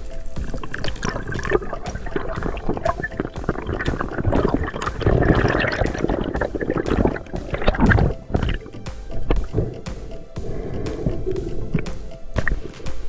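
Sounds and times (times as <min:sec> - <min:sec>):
small bubbling clicks: 0:00.0 - 0:13.0
water gurgling and sloshing: 0:00.0 - 0:13.0.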